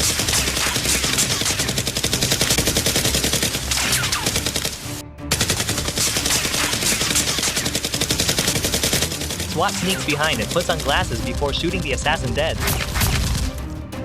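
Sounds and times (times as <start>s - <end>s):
automatic gunfire: 0.0s - 12.0s.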